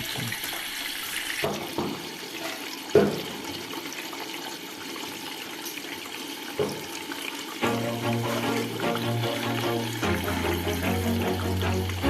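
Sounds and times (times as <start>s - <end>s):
water hissing into washing machine: 0.0s - 12.0s.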